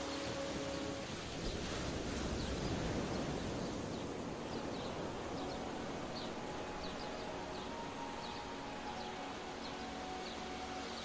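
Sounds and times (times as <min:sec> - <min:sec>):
wind noise: 0:00.0 - 0:11.0.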